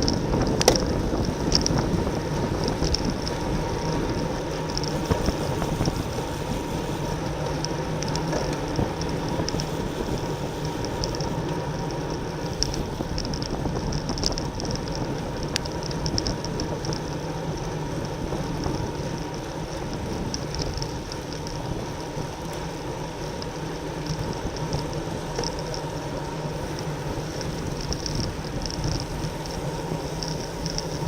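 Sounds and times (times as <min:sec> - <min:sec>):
bicycle tyre and drivetrain noise: 0:00.0 - 0:31.0
wind rush on microphone: 0:00.0 - 0:31.0.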